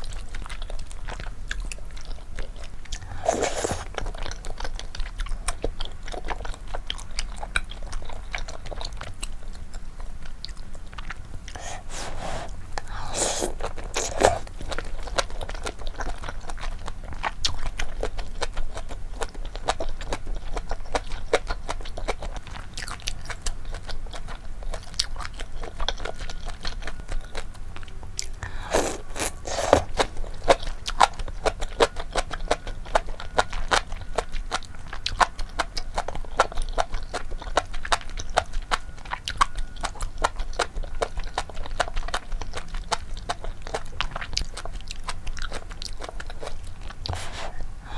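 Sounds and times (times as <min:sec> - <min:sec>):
chewing noodles: 0:00.0 - 0:47.9.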